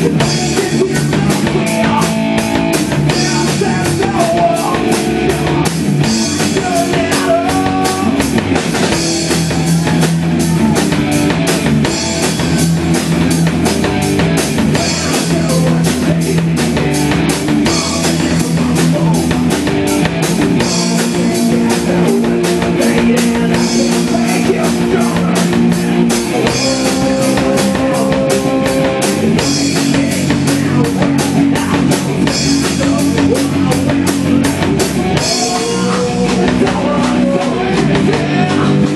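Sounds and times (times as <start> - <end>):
electric guitars playing chords: 0.0 - 38.9
fast drum beat: 0.0 - 38.9.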